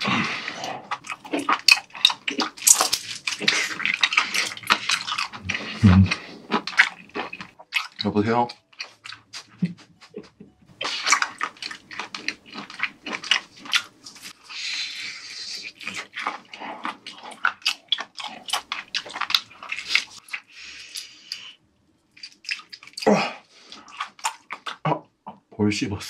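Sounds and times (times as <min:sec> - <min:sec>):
mouth clicks and smacks: 0:00.0 - 0:23.1, 0:23.7 - 0:25.4
wet chewing: 0:00.0 - 0:25.0.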